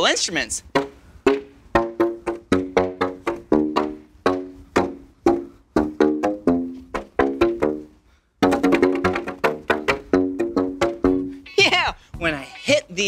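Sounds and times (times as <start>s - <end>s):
shoe soles slapping pipes: 0.6s - 12.8s.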